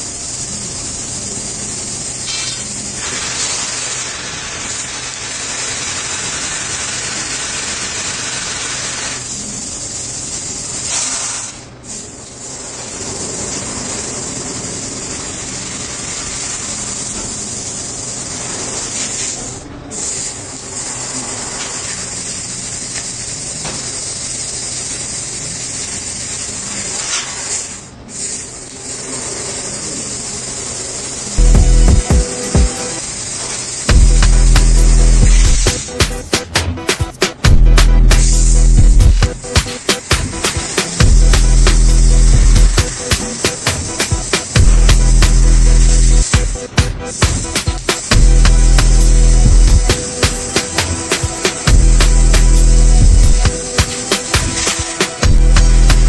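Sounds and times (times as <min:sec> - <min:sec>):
plasma cutter arc hissing: 0:00.0 - 0:56.0.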